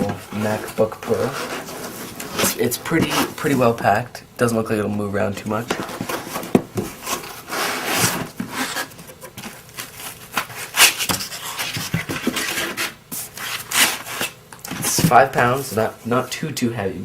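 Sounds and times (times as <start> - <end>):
cardboard box rustling and scraping: 0.0 - 3.8, 5.6 - 16.0.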